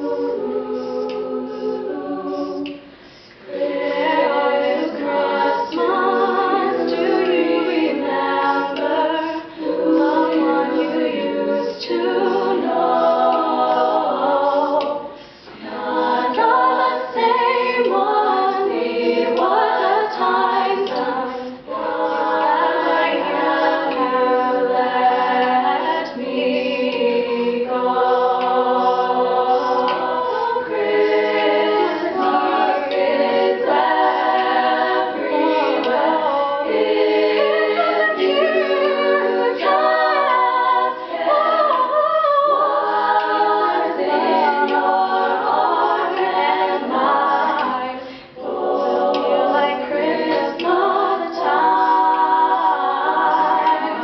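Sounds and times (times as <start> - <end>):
women singing backing chords: 0.0 - 54.0.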